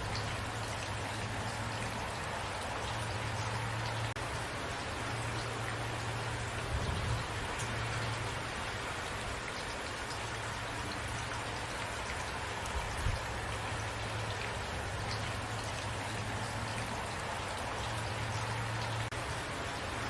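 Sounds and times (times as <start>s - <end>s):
raindrops tapping: 0.0s - 20.0s
steady rain falling: 0.0s - 20.0s.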